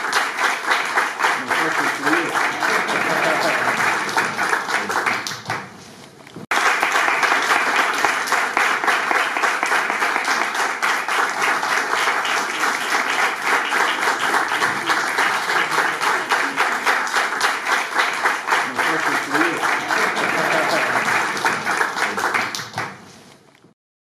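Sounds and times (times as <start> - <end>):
audience applauding: 0.0 - 5.7, 6.5 - 23.1.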